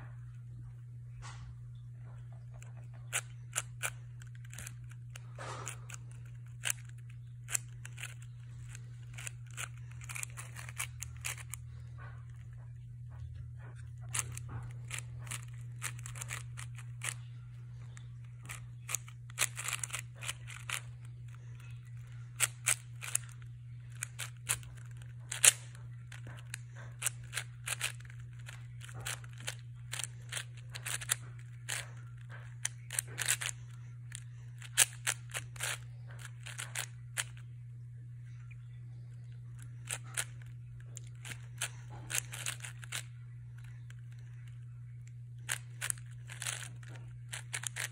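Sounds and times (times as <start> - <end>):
steady low hum: 0.0 - 47.9
speed cube clicking and rattling: 2.4 - 37.5, 38.9 - 47.9.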